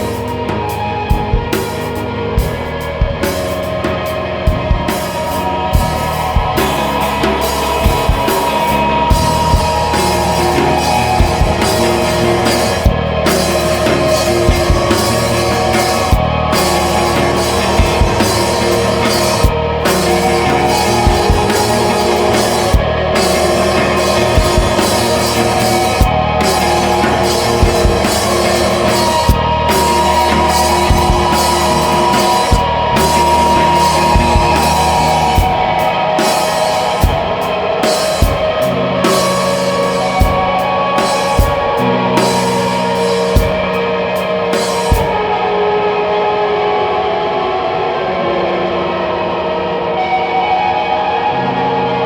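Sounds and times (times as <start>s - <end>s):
drum kit: 0.0s - 45.7s
distorted guitars sustained chords: 0.0s - 52.0s.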